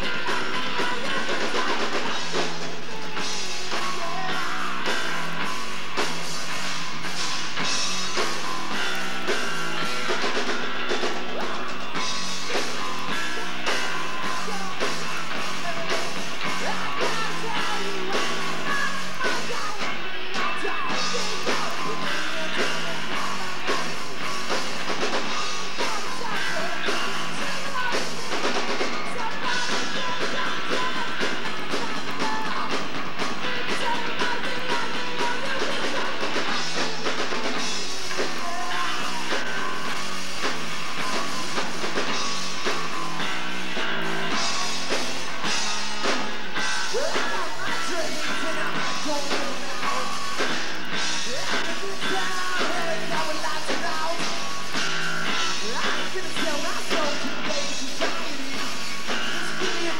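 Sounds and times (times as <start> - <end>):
lead singer singing: 0.0 - 5.5, 7.6 - 59.9
bass guitar: 0.0 - 59.9
drum kit: 0.0 - 59.9
electric guitar: 0.0 - 59.9.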